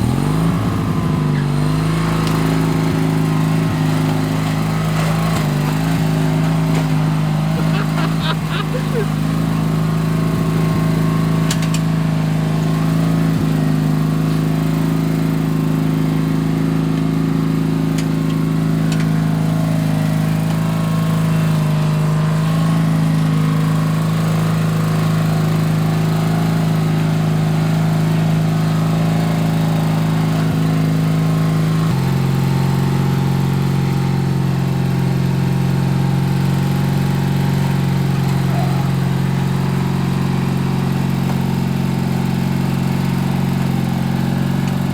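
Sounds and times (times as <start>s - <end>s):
lawn tractor engine running: 0.0s - 44.9s.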